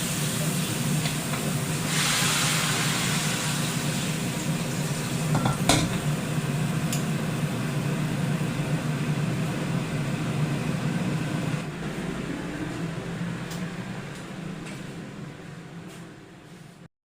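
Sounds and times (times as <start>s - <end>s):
machine hum with hiss: 0.0s - 16.9s.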